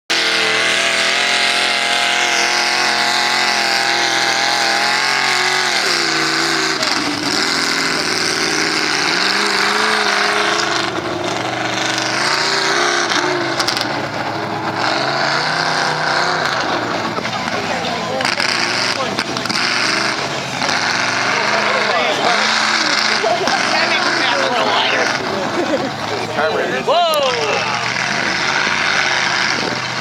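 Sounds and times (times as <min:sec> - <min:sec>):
truck engine revving: 0:00.1 - 0:30.0.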